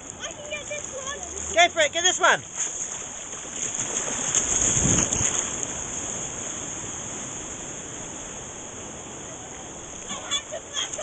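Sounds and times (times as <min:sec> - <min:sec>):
small wave breaking: 0:00.0 - 0:11.0.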